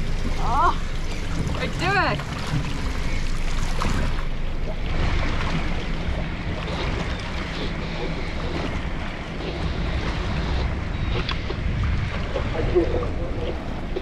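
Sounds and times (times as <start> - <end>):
outboard motors idling: 0.0 - 14.0
water splashing from swimming: 0.0 - 14.0.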